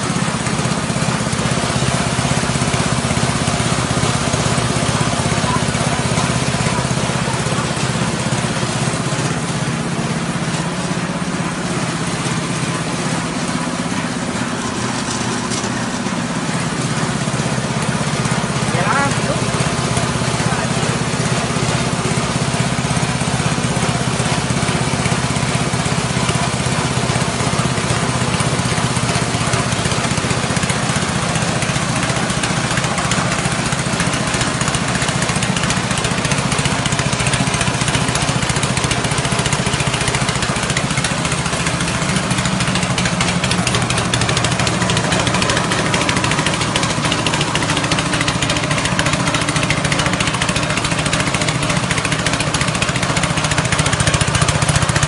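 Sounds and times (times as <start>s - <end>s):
engine drone: 0.0s - 55.0s
milling machine rushing: 0.0s - 55.0s.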